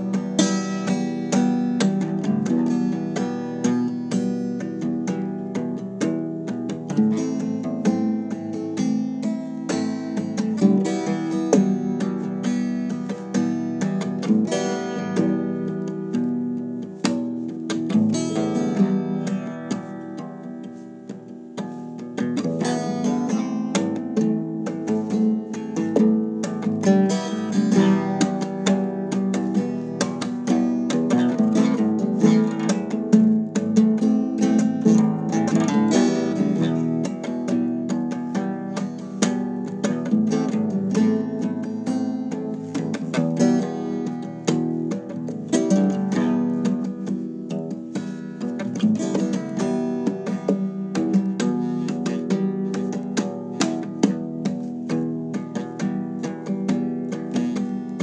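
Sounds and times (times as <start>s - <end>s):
acoustic guitar strummed and picked: 0.0s - 58.0s.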